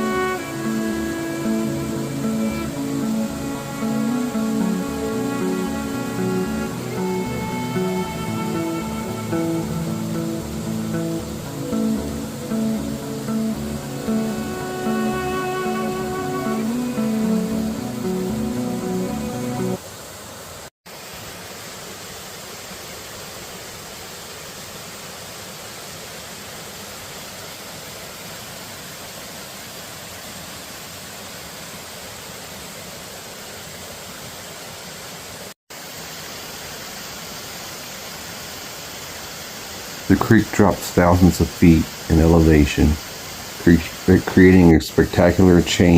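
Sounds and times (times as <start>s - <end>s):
creek water rushing over cascades: 0.0s - 45.9s.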